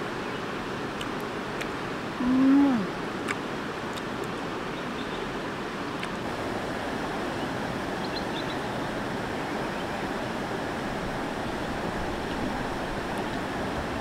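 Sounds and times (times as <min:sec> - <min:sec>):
river water flowing over rocks: 0:00.0 - 0:14.0.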